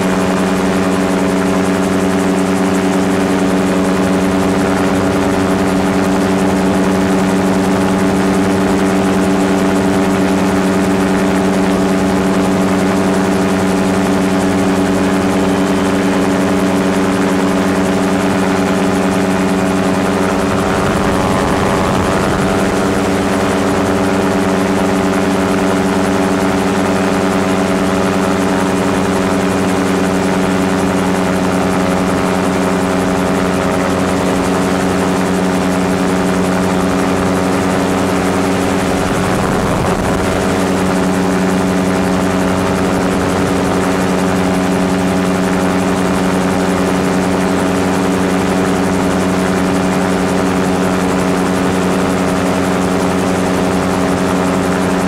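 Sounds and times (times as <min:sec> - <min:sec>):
gyrocopter engine and propeller: 0:00.0 - 0:55.0.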